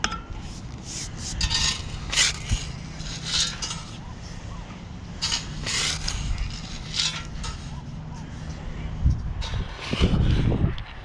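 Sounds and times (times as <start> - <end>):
metal detector coil over sand: 0.4 - 4.4, 5.2 - 8.7, 9.4 - 10.9.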